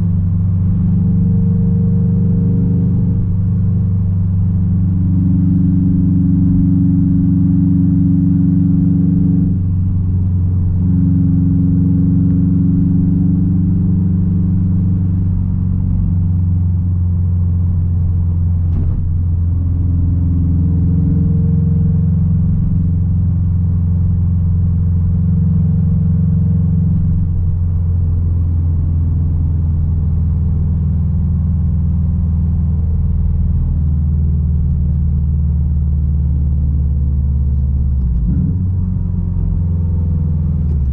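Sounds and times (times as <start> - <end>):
car engine and exhaust droning: 0.0 - 40.9.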